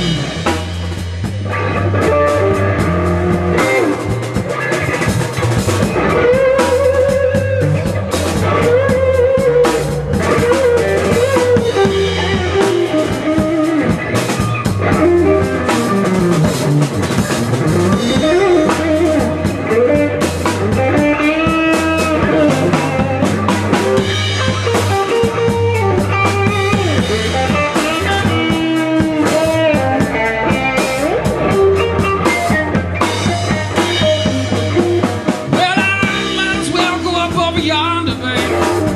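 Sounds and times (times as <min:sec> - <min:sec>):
drum kit: 0:00.0 - 0:38.9
lead guitar bending notes: 0:00.0 - 0:38.9
low bass notes: 0:00.0 - 0:38.9.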